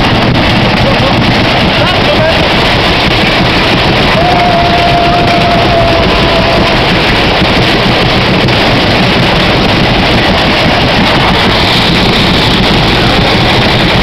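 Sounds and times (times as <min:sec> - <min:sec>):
fairground ride roaring: 0:00.0 - 0:14.0
wind buffeting microphone: 0:00.0 - 0:14.0.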